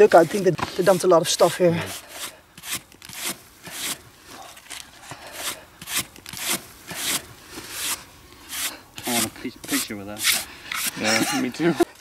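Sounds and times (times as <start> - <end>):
hand brush sweeping sand: 0.0 - 4.4, 5.2 - 12.0.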